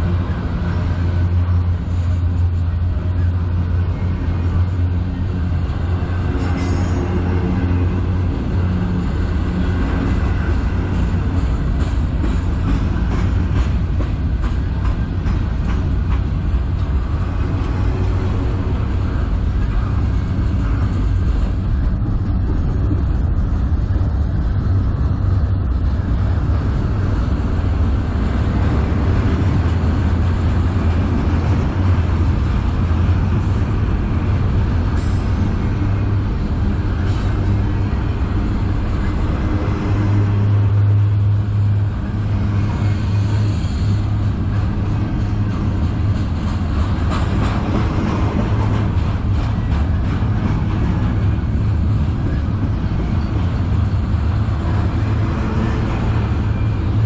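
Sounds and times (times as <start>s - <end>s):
freight train cars rumbling: 0.0s - 57.0s.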